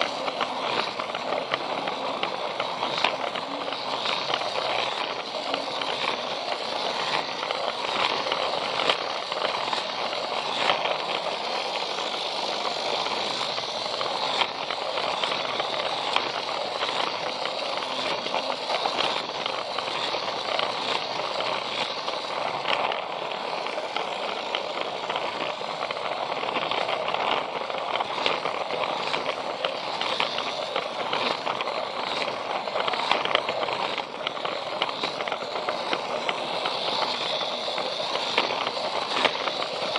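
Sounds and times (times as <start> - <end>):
toy train motor rattling: 0.0 - 39.9
wheels clicking over track joints: 0.0 - 39.9.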